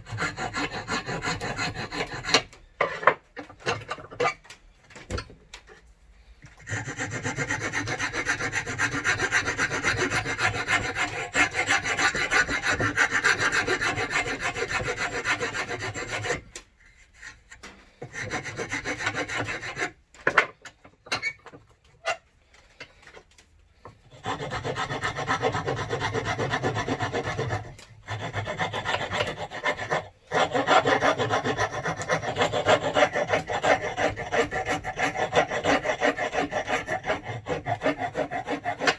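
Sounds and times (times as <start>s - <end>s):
hand file scraping plywood: 0.0s - 4.4s, 6.4s - 38.9s.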